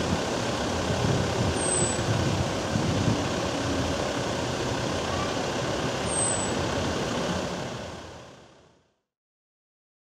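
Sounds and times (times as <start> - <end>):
tram moving along track: 0.0 - 8.2
road traffic noise: 0.0 - 9.0.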